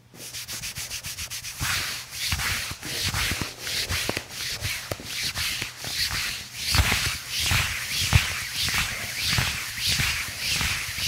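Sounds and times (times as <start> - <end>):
hands rubbing over fabric: 0.2 - 11.0.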